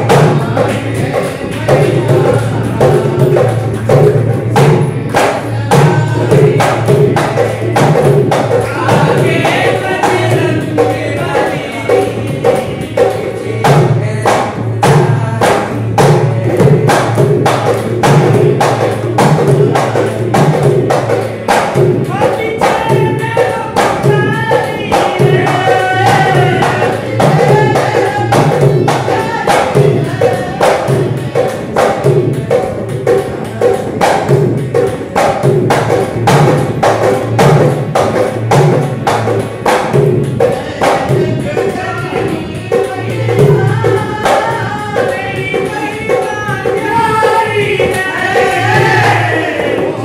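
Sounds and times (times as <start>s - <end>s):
hand drum rhythm: 0.0s - 50.0s
person singing devotional song: 0.0s - 50.0s.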